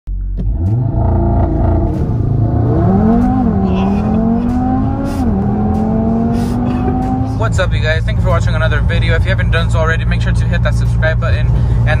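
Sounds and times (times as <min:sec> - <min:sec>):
car engine accelerating: 0:00.1 - 0:12.0.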